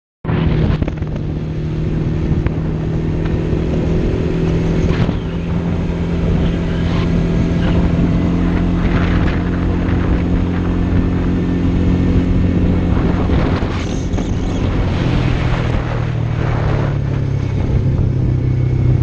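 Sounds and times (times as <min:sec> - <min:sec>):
quad engine running: 0:00.3 - 0:19.0.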